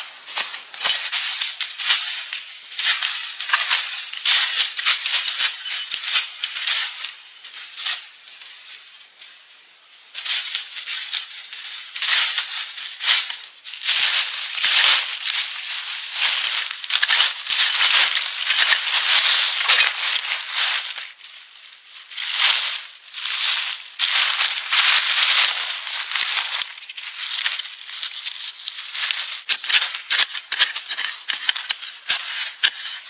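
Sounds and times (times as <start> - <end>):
dry leaves rustling and crackling: 0.0 - 33.0.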